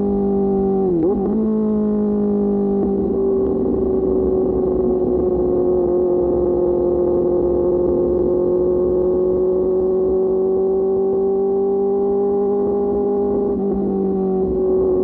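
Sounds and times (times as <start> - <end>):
motorcycle engine at steady revs: 0.0 - 15.0
wind and road noise: 0.0 - 15.0.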